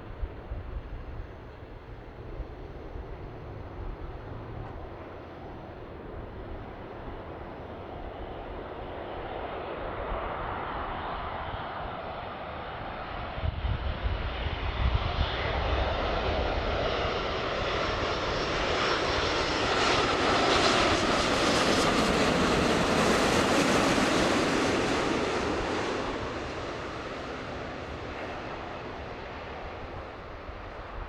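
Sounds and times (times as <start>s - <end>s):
jet aircraft passing to land: 0.0s - 31.0s.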